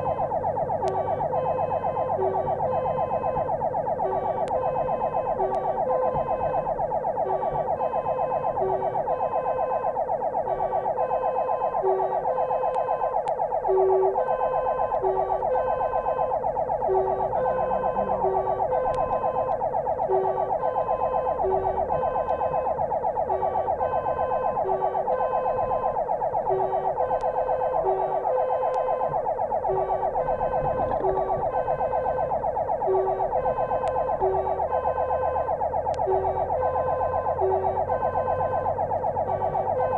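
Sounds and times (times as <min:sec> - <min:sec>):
fire engine siren warbling: 0:00.0 - 0:39.9
second siren tone: 0:00.0 - 0:39.9.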